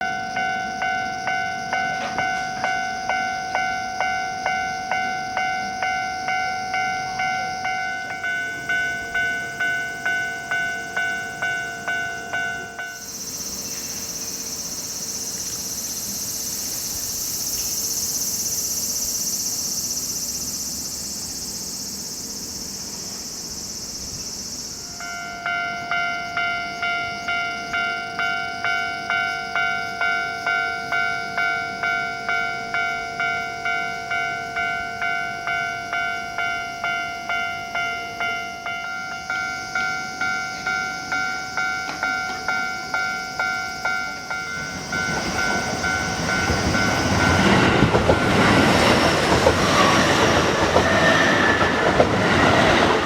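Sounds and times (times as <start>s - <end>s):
level-crossing alarm dinging: 0.0s - 18.6s, 24.8s - 53.0s
train passing over crossing: 0.0s - 53.0s.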